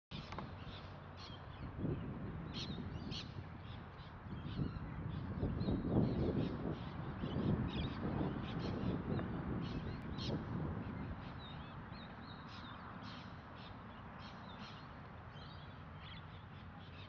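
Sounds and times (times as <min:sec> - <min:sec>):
birds calling: 0:00.1 - 0:17.0.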